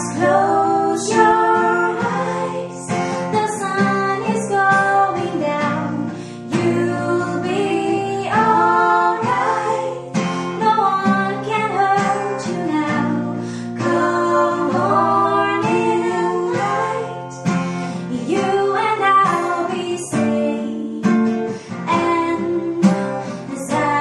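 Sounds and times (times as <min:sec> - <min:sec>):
acoustic guitar strummed: 0:00.0 - 0:24.0
backing vocals: 0:00.0 - 0:24.0
woman singing a slow ballad: 0:00.0 - 0:24.0.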